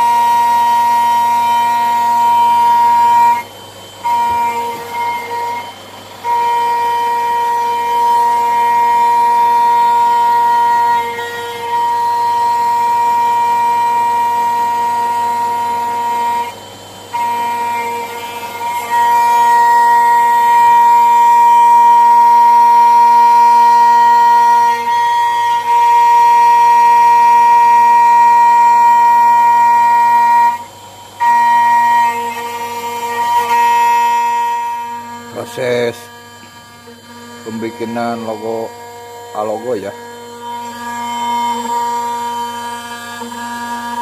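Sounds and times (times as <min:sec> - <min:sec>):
router spindle whining: 0:00.0 - 0:44.0.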